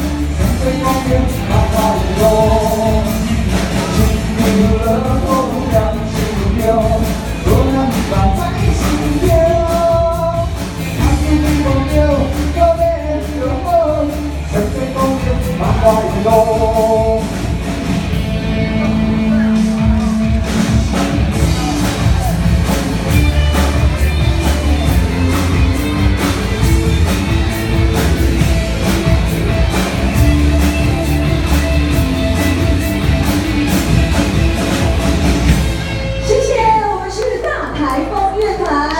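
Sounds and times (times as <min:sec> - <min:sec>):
live rock band playing: 0:00.0 - 0:38.6.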